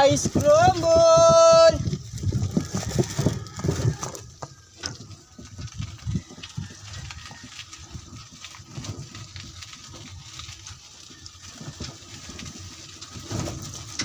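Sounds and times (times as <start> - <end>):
footsteps on dirt: 0.0 - 14.0.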